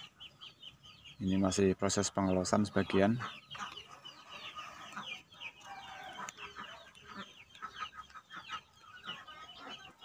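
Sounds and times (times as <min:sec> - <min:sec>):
chickens clucking and chirping: 0:00.0 - 0:10.0.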